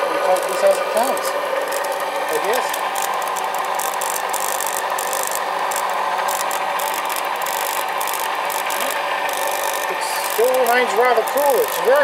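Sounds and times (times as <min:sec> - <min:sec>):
motor-generator hum: 0:00.0 - 0:12.0.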